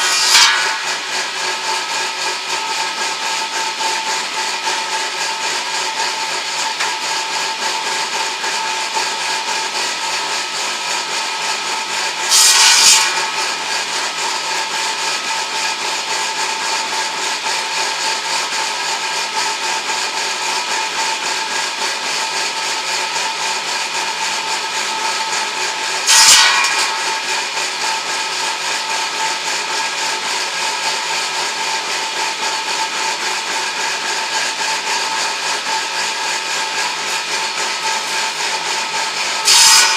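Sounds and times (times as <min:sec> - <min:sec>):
saw blade cutting wood: 0:00.0 - 0:39.9
saw running with even whine: 0:00.0 - 0:39.9.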